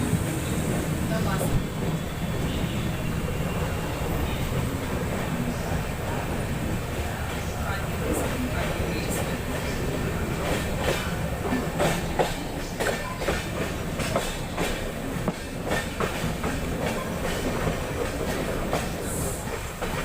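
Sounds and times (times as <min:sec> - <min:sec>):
train rumbling on rails: 0:00.0 - 0:20.0
wheels clickety-clack on rail joints: 0:00.0 - 0:20.0.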